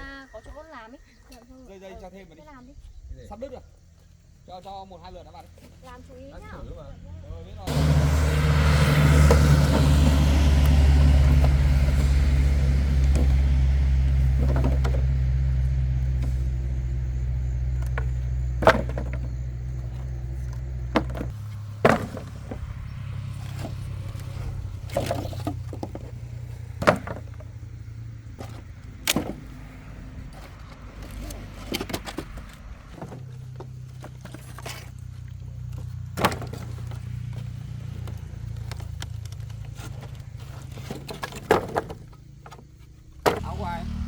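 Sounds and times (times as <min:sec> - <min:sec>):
engine humming: 0:05.4 - 0:44.0.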